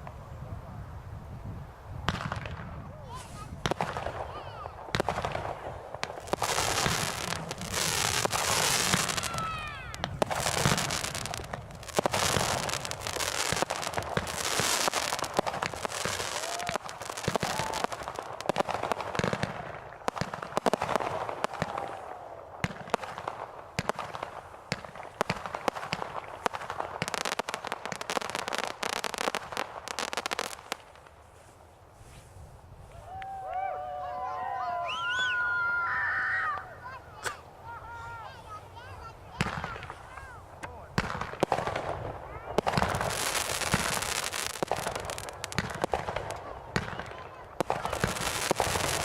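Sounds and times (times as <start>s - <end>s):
fireworks crackling: 0.0s - 33.9s, 34.9s - 49.0s.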